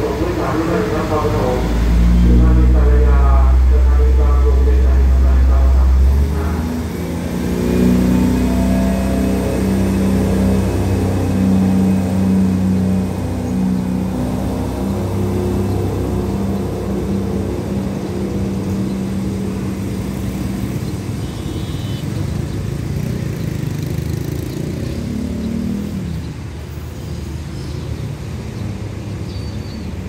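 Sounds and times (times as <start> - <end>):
diesel train engine drone: 0.0 - 27.6.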